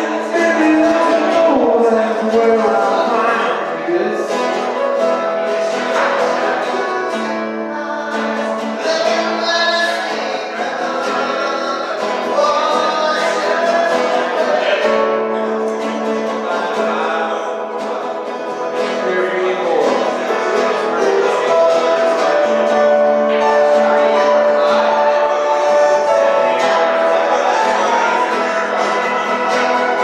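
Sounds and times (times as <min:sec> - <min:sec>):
guitar accompaniment: 0:00.0 - 0:30.0
person singing: 0:00.0 - 0:30.0.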